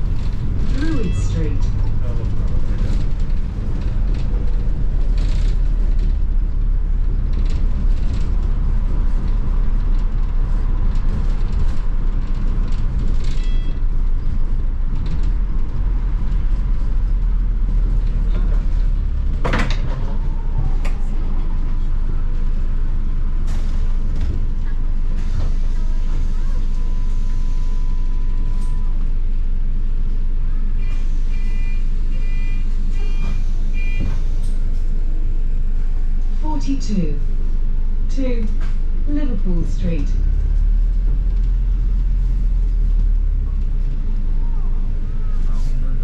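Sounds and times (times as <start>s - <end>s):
bus engine and road noise: 0.0s - 46.0s.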